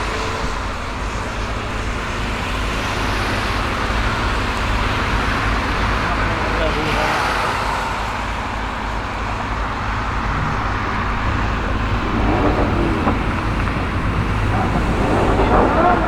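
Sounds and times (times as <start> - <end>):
car engines humming: 0.0 - 16.0.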